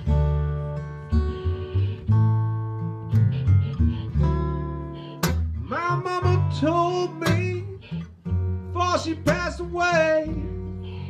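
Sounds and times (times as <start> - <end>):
blues acoustic guitar: 0.0 - 11.0
washtub bass notes: 0.0 - 11.0.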